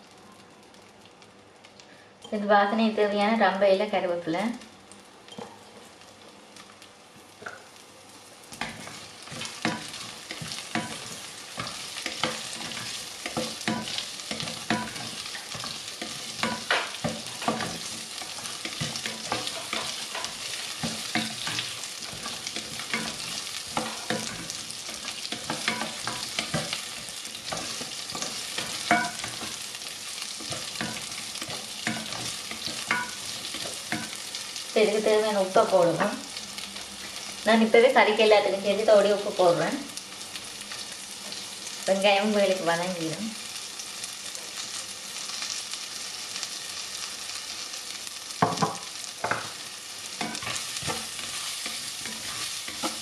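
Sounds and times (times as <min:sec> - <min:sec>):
aromatics sizzling in hot oil: 0:00.0 - 0:53.0.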